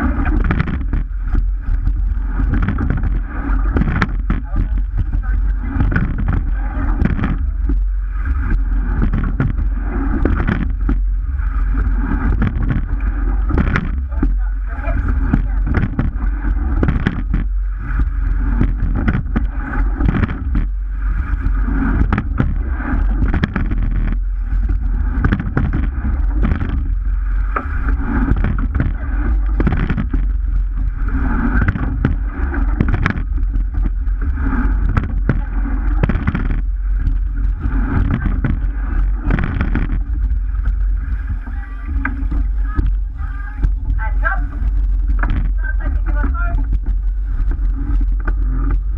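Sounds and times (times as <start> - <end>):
oars knocking and splashing: 0.0 - 48.9
water rushing along a hull: 0.0 - 48.9
wind buffeting microphone: 0.0 - 48.9.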